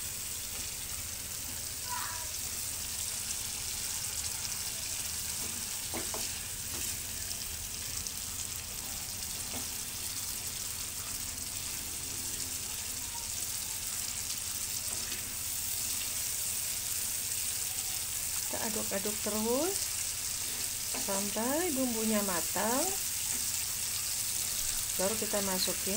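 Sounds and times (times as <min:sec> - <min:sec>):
spice paste sizzling in oil: 0:00.0 - 0:25.9.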